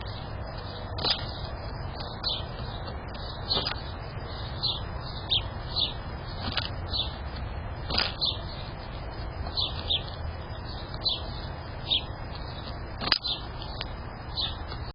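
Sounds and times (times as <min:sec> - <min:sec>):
low steady rumble: 0:00.0 - 0:14.9
small bird chirping: 0:00.0 - 0:14.9.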